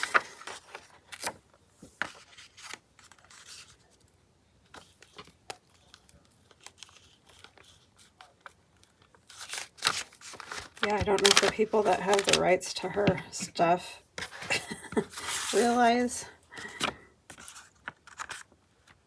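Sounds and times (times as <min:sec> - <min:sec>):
paper rustling and crinkling: 0:00.0 - 0:04.1, 0:04.7 - 0:19.0.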